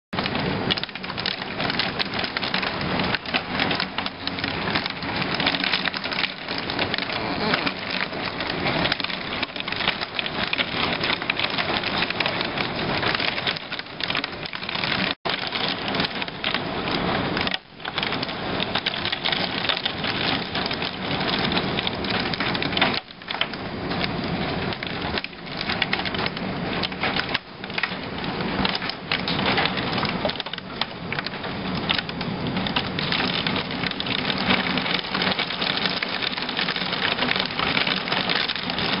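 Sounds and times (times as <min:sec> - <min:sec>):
heavy rain downpour: 0:00.2 - 0:39.0.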